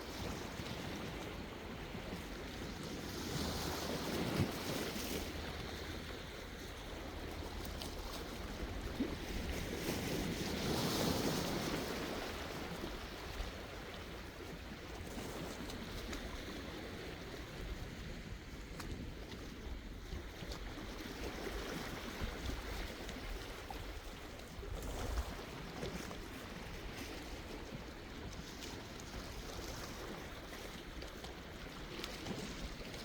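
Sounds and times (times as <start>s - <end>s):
low rumble of the sea: 0.0s - 33.0s.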